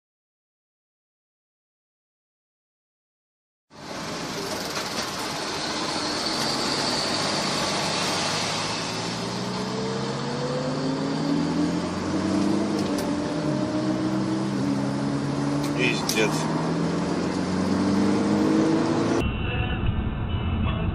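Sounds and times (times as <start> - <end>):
road and tyre noise: 3.7 - 20.9
car engine accelerating: 3.8 - 20.9.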